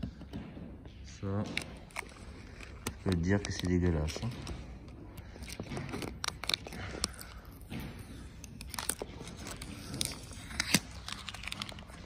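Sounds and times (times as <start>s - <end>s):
plastic film crackling: 1.5s - 7.7s, 8.4s - 12.0s.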